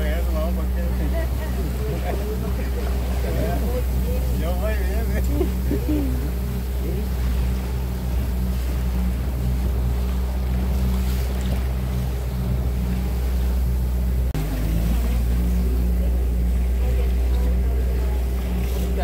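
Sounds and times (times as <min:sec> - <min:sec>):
motorboat engine running: 0:00.0 - 0:19.0
rushing water: 0:00.0 - 0:19.0.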